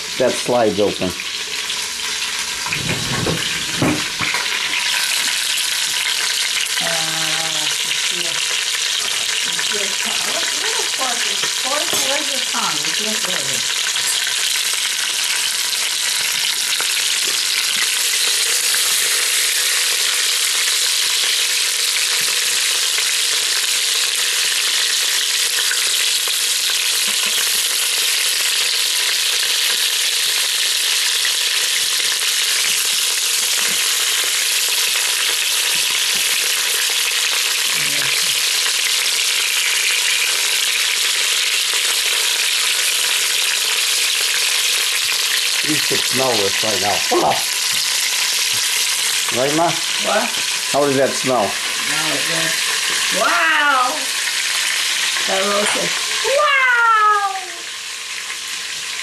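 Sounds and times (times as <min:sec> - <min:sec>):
meat sizzling in hot oil: 0:00.0 - 0:59.0.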